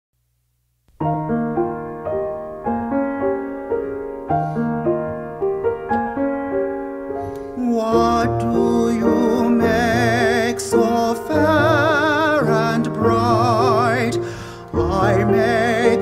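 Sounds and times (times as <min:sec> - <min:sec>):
solo piano: 0:00.9 - 0:16.0.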